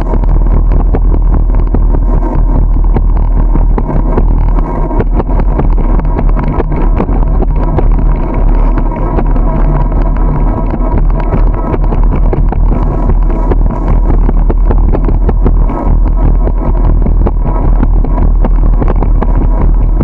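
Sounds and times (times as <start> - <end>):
low rumble from the ride: 0.0 - 20.0
wind buffeting the microphone: 0.0 - 20.0.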